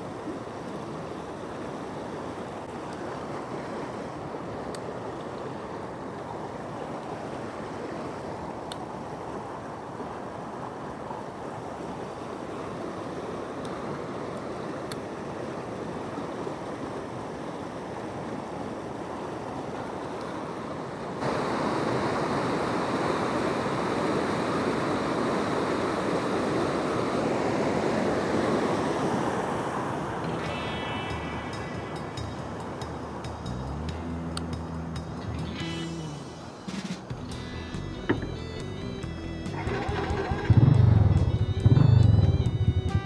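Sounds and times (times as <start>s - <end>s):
river rushing over rapids: 0.0s - 34.5s.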